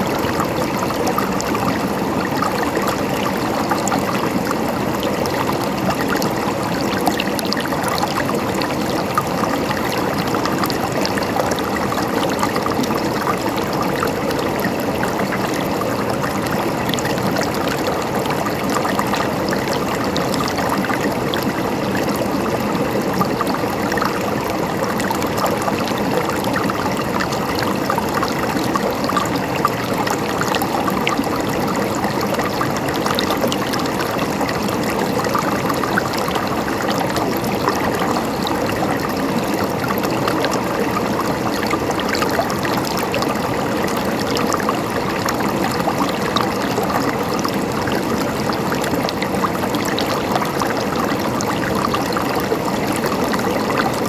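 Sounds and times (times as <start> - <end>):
stream gurgling and trickling: 0.0 - 54.0.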